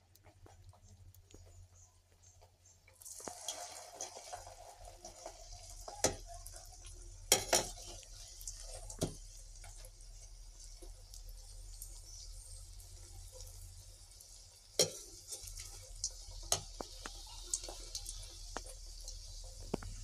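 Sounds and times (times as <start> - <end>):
dough sizzling in oil: 0.0 - 20.0.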